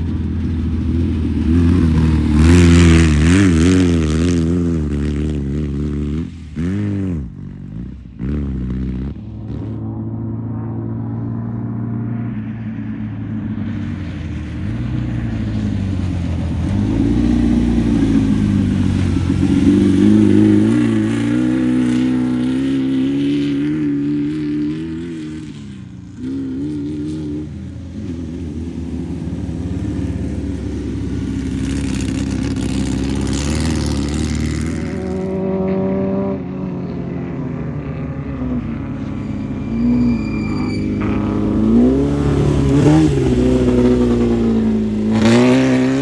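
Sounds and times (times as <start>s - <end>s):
race car engine revving: 0.0s - 11.9s, 14.6s - 46.0s.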